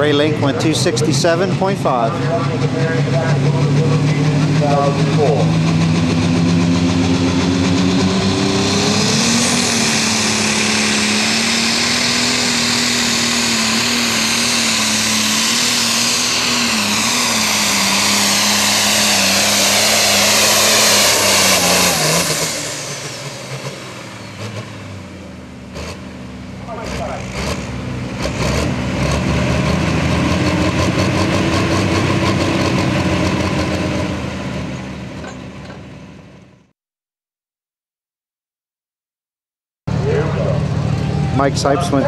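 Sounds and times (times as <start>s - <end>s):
diesel engine running under load: 0.0s - 36.7s, 39.9s - 42.0s
high turbo whine: 0.0s - 36.7s, 39.9s - 42.0s.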